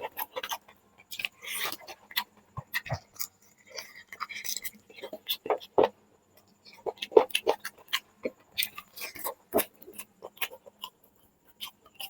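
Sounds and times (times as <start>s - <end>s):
wet chewing and lip-smacking: 0.0s - 12.0s.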